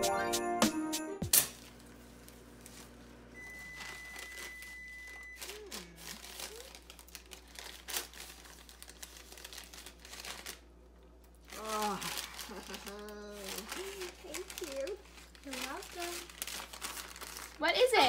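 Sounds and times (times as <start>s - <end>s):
packaging rustling and crinkling: 1.6s - 18.0s.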